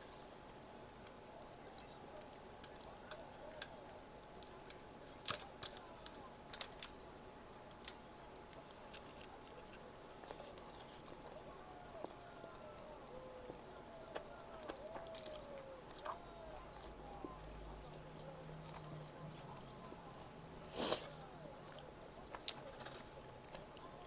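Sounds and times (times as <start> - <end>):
chewing crunchy fried snack: 1.4 - 12.7, 13.5 - 24.0.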